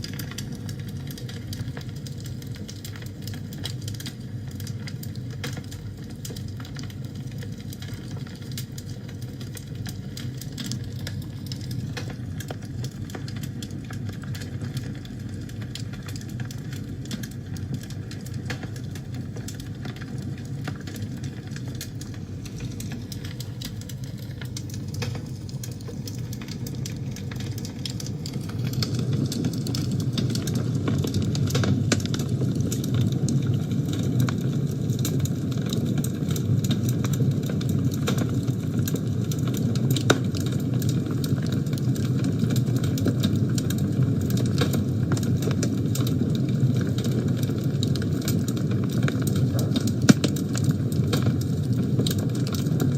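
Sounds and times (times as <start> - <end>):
fire crackling and popping: 0.0 - 52.9
flames rumbling: 0.0 - 52.9.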